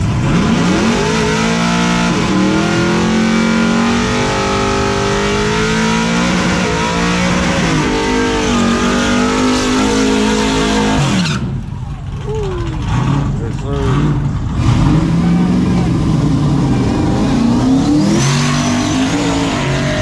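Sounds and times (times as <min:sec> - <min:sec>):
pickup truck engines at full throttle: 0:00.0 - 0:20.0.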